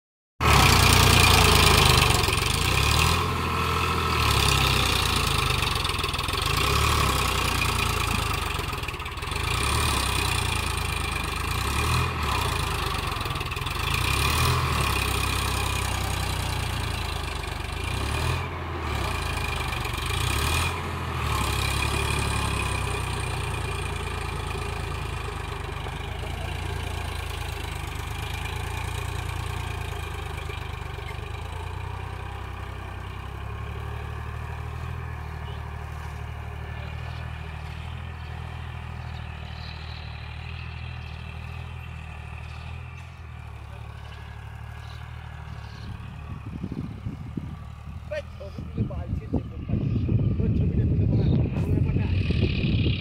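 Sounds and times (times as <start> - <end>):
tractor diesel engine running: 0.4 - 53.0.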